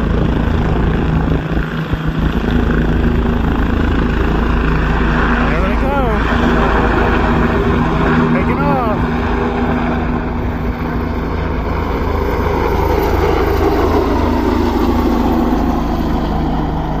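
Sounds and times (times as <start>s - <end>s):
helicopter rotor drone: 0.0s - 17.0s.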